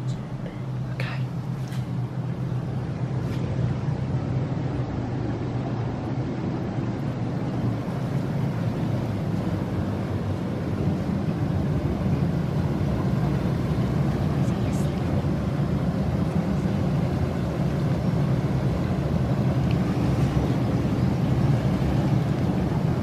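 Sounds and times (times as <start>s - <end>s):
churning water: 0.0s - 23.0s
pump hum: 0.0s - 23.0s.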